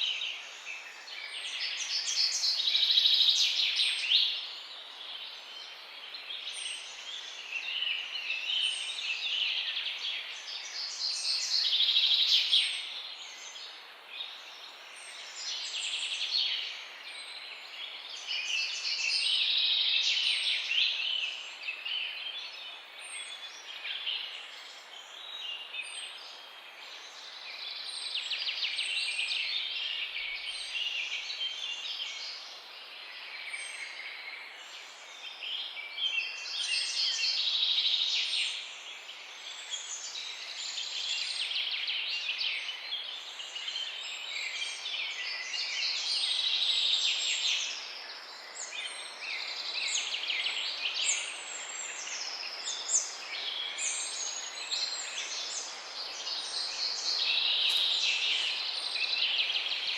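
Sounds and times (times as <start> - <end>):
songbirds chorus: 0.0 - 59.9.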